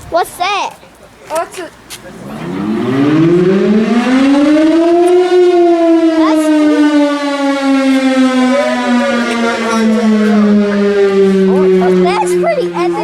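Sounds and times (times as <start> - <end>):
mechanical fire siren wailing: 2.1 - 13.0.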